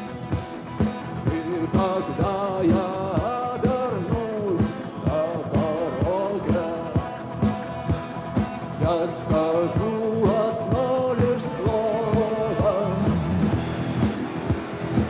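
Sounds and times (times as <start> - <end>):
rock band playing: 0.0 - 15.0
steady drum beat: 0.0 - 15.0.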